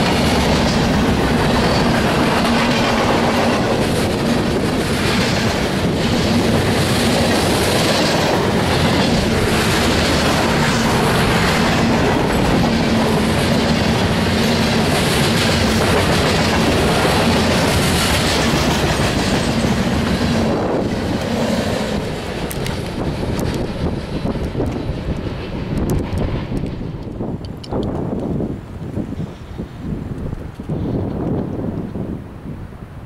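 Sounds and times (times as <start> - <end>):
freight train wheels rolling: 0.0 - 32.6.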